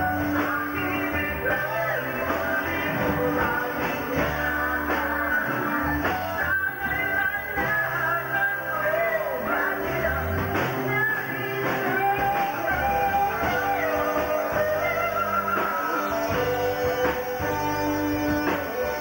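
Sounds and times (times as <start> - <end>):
live band dance music: 0.0 - 19.0.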